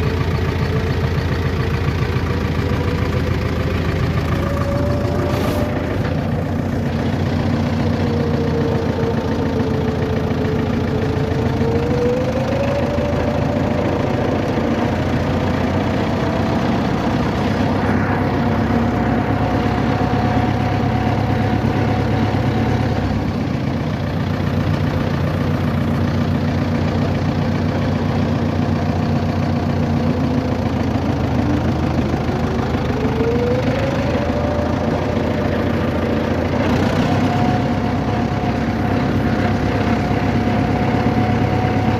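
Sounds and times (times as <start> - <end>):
vehicle engine and road drone: 0.0 - 41.9.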